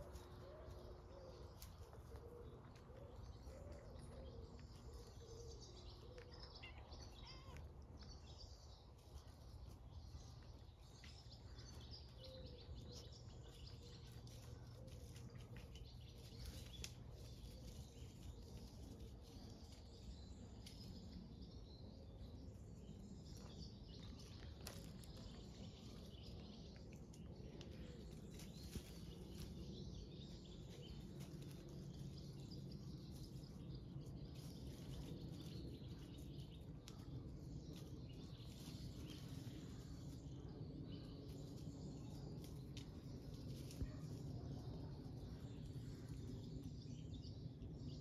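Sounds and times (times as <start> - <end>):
faint clicks and rustles: 0.0 - 21.3, 22.9 - 46.8
low steady background rumble: 0.0 - 48.0.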